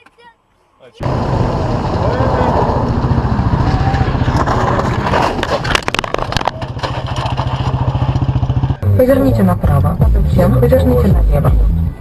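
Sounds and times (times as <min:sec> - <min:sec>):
car engine and road noise: 0:00.9 - 0:12.0.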